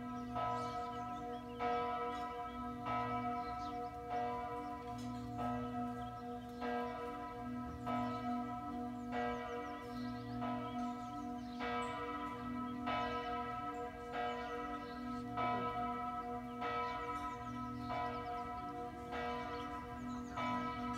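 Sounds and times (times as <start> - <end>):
church bells ringing: 0.0 - 20.9.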